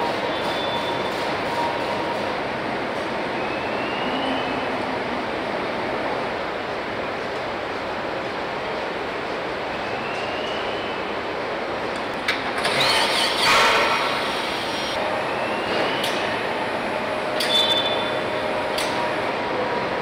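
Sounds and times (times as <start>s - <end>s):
factory hum and hiss: 0.0s - 20.0s.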